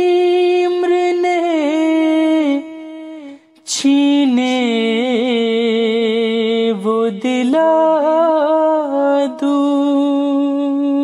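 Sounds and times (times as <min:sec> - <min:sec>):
person singing a lament: 0:00.0 - 0:11.0.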